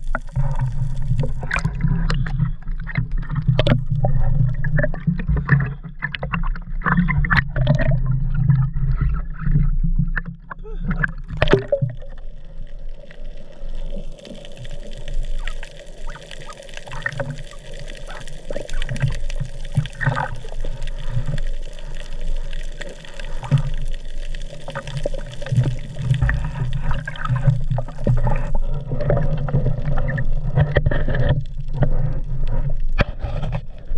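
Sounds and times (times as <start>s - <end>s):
water sloshing and gurgling: 0.0s - 33.9s.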